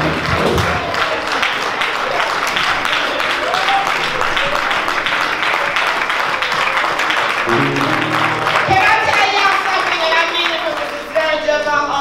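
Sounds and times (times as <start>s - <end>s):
congregation clapping: 0.0s - 11.8s.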